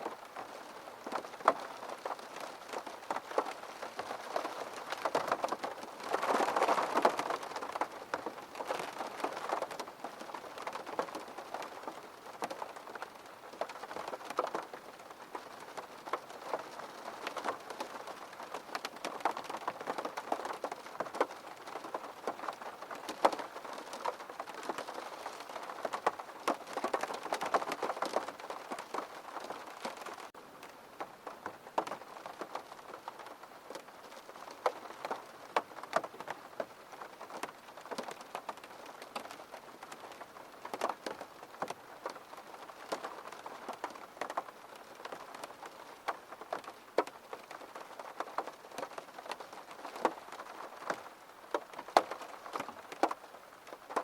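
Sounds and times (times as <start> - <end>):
rain drops on hard surface: 0.0 - 54.0.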